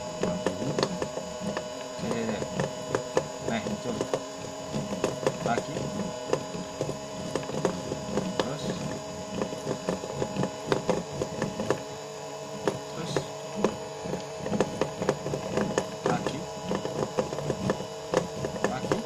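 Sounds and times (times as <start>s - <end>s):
irregular clicks and knocks: 0.0s - 19.0s
machine hum with steady tones: 0.0s - 19.0s.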